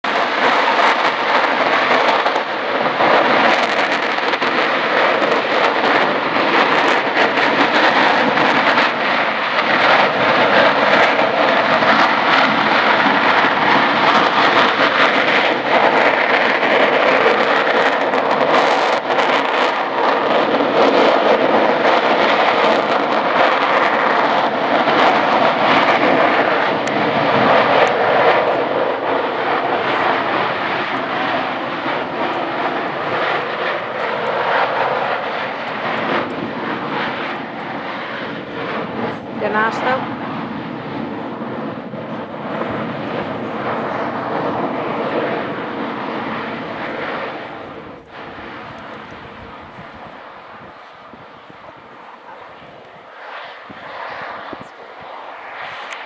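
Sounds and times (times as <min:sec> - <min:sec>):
volcano rushing roar: 0:00.0 - 0:56.0.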